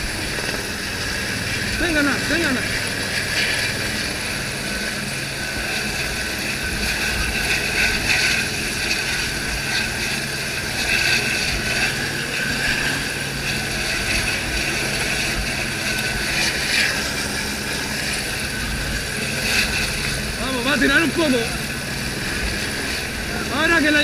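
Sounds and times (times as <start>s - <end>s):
helicopter turbine whine: 0.0s - 24.0s.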